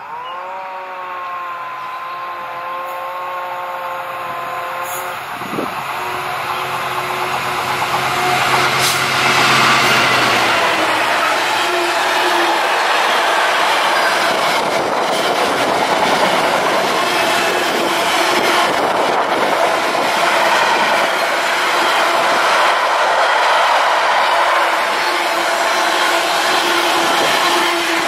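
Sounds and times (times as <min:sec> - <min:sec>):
train wheels clattering on rails: 0:04.8 - 0:28.0.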